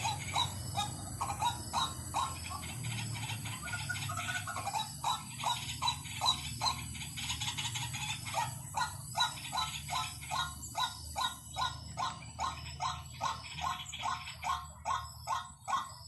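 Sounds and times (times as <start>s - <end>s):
waterhen harsh calls: 0.0s - 15.9s.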